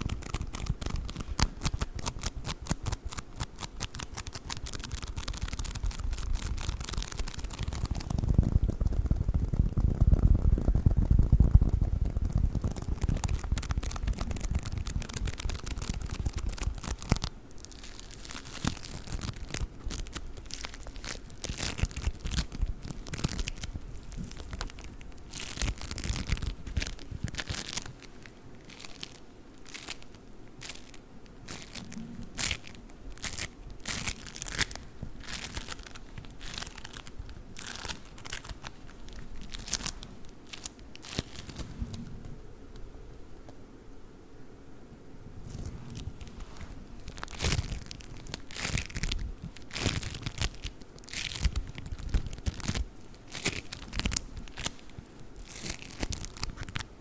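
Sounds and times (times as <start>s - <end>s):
play foam crackling and crunching: 0.0s - 42.0s, 45.4s - 56.9s.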